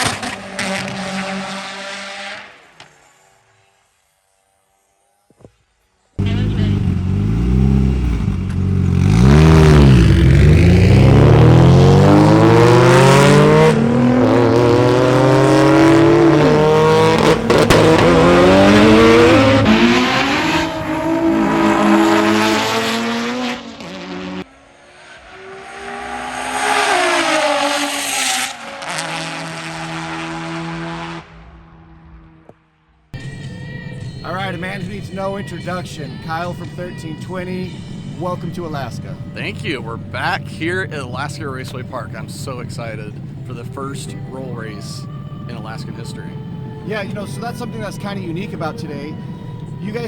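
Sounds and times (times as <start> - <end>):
car engines at full throttle: 0.0 - 2.9, 6.2 - 32.6, 33.2 - 50.0.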